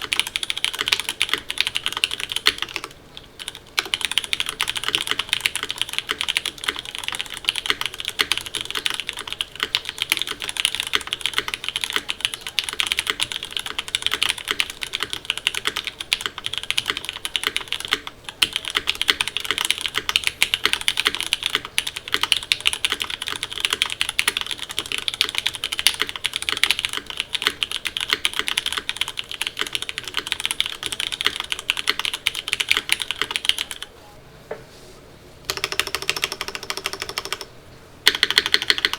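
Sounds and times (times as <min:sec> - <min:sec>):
mechanical keyboard typing: 0:00.0 - 0:33.9, 0:35.5 - 0:38.9.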